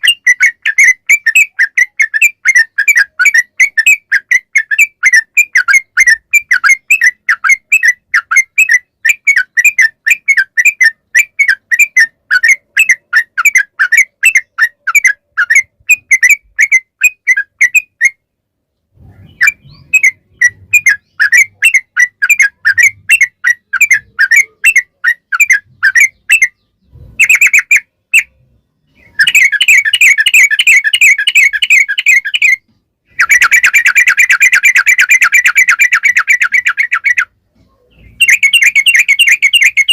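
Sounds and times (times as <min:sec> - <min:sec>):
bird chirping rapidly: 0:00.0 - 0:18.4, 0:19.0 - 0:39.9.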